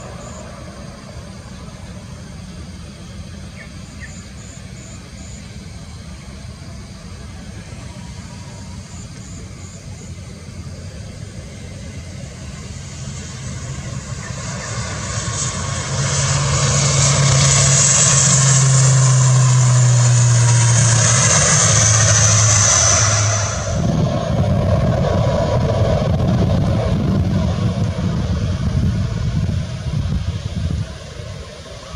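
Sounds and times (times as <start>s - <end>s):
turboprop airliner hum and whine: 0.0s - 31.9s.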